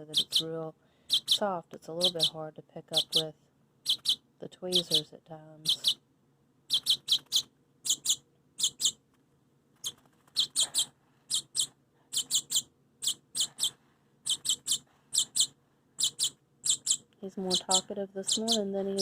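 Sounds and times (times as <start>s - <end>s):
baby bird chirping: 0.0s - 6.0s, 6.6s - 9.0s, 9.8s - 19.0s.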